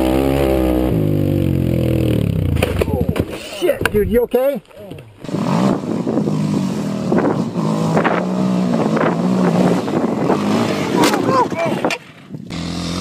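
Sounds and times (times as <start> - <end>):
atv engine revving: 0.0 - 3.6, 4.8 - 11.9, 12.5 - 13.0.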